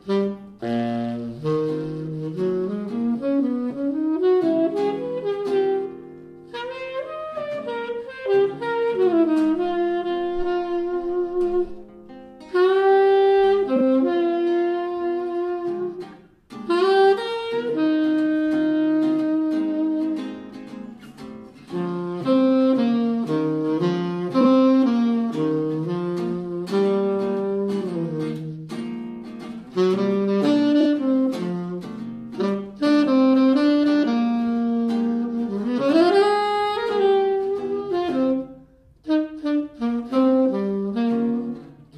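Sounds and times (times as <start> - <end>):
saxophone jazz melody: 0.0 - 41.9.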